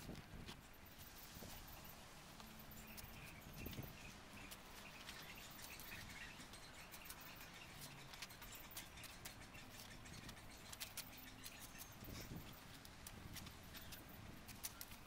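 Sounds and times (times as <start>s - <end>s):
soft bird chirps: 0.6s - 15.0s.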